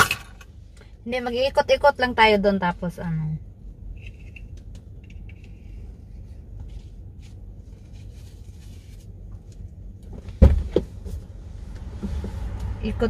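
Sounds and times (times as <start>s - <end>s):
low rumble inside a car: 0.4s - 13.0s.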